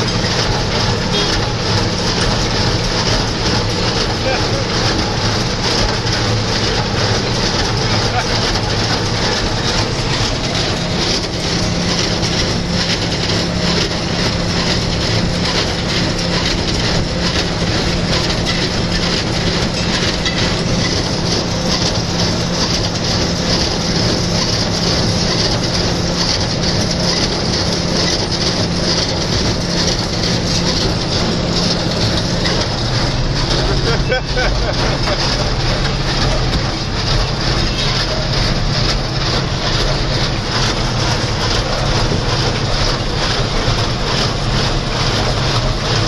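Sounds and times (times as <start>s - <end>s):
baler mechanical clatter: 0.0s - 46.0s
tractor engine drone: 0.0s - 46.0s.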